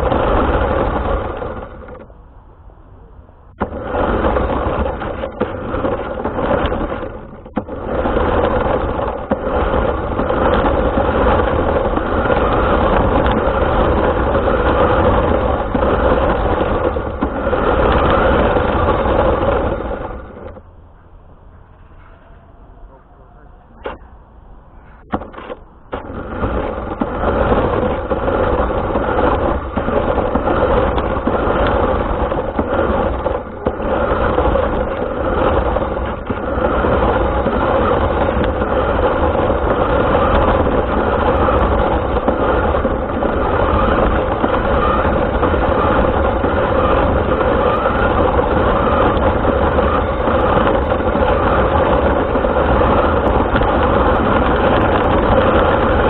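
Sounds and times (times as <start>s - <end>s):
toy car motor running: 3.7s - 20.3s, 26.0s - 56.0s.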